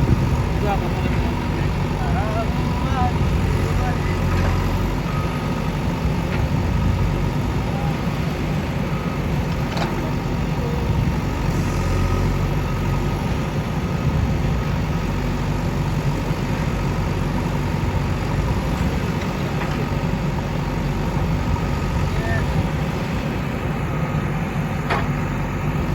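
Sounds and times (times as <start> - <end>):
heavy vehicle engine idling: 0.0 - 25.9.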